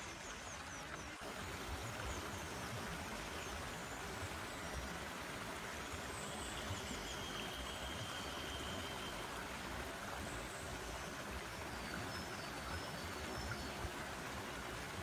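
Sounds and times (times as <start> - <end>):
forest stream flowing: 0.0 - 15.0.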